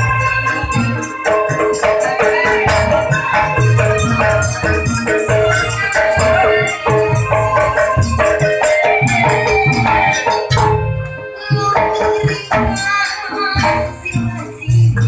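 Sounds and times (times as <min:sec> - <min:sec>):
drums and rattling percussion: 0:00.0 - 0:15.0
electronic keyboard: 0:00.0 - 0:15.0.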